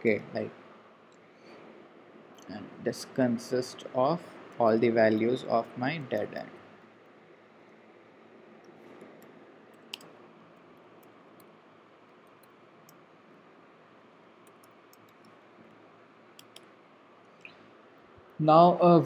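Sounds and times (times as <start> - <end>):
low room hiss: 0.0 - 19.0.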